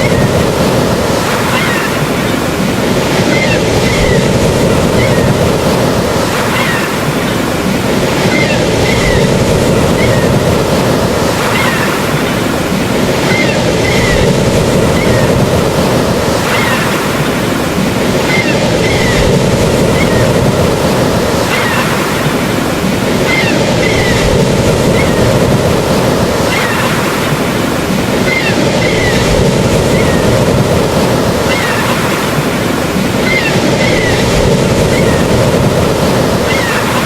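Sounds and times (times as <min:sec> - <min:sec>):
ocean surf rushing: 0:00.0 - 0:37.0.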